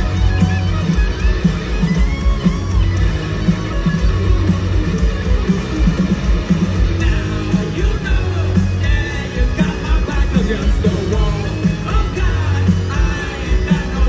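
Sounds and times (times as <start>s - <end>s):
electric guitars: 0.0s - 14.0s
steady drum beat: 0.0s - 14.0s.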